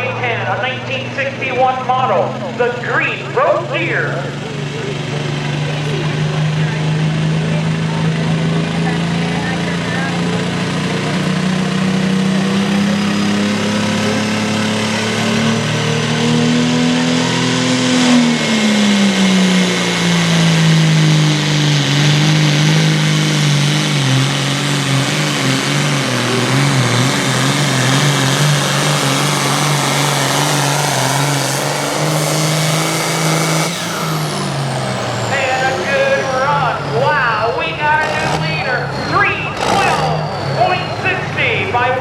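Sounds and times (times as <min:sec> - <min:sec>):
tractor diesel engine straining: 0:00.0 - 0:42.0.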